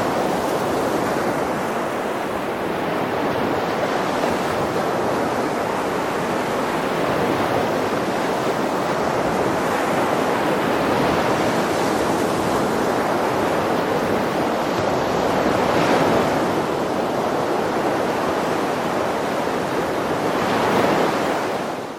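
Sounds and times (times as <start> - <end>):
waves breaking and washing: 0.0 - 21.9.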